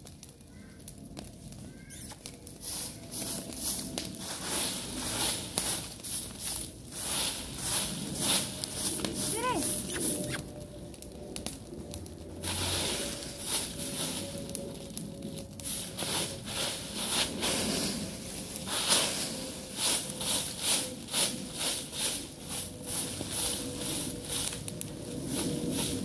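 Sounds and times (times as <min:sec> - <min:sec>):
broom sweeping dry leaves: 0:02.4 - 0:10.4, 0:12.4 - 0:26.0.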